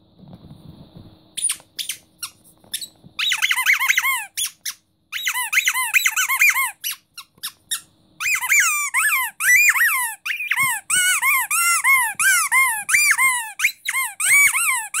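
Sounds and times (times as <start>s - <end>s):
squeaky dog toy squeaks: 1.4s - 15.0s.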